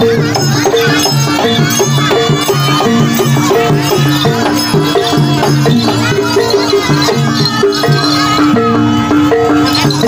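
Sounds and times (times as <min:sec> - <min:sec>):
drumming: 0:00.0 - 0:10.0.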